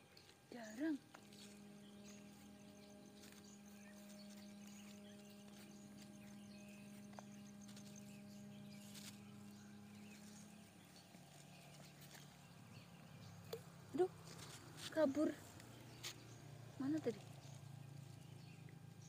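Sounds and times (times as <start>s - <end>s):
faint rustles: 0.0s - 18.9s
faint steady low hum: 0.0s - 19.0s.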